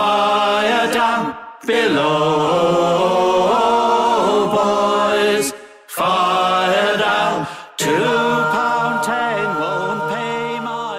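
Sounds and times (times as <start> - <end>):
group singing in harmony: 0.0 - 10.9.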